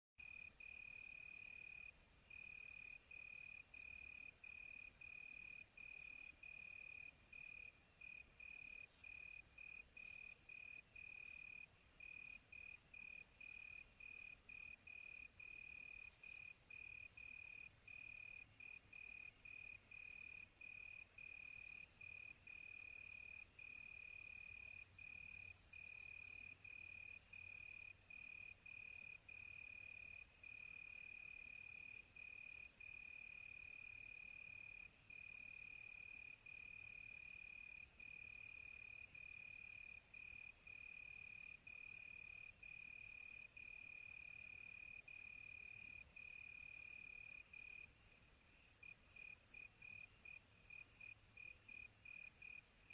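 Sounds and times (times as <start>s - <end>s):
crickets chirping: 0.2s - 52.9s.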